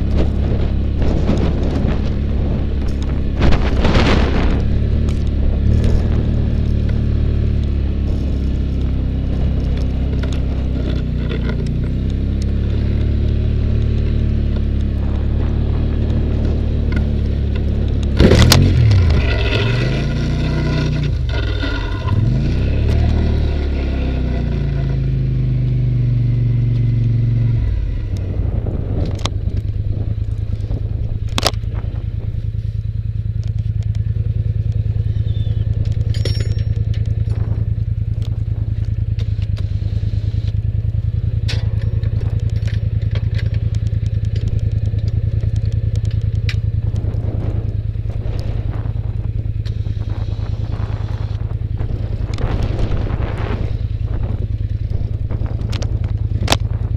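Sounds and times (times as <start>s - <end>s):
atv engine revving: 0.0s - 56.9s
engine idling: 0.0s - 56.9s.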